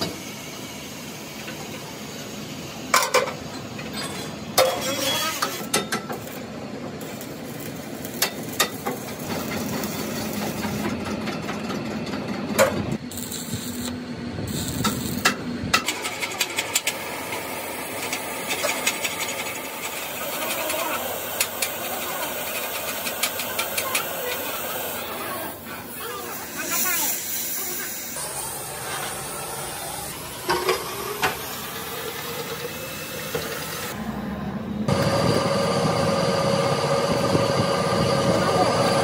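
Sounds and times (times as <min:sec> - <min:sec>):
arc welding buzzing hum: 0:04.4 - 0:11.3, 0:12.6 - 0:39.0.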